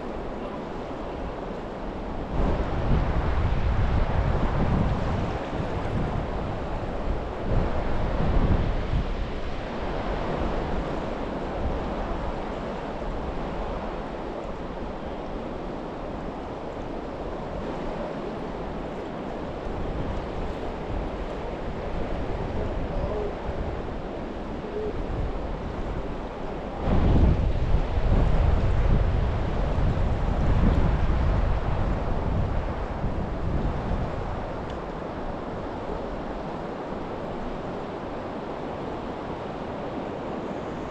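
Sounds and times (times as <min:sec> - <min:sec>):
river water rushing: 0:00.0 - 0:40.9
wind buffeting microphone: 0:00.0 - 0:40.9.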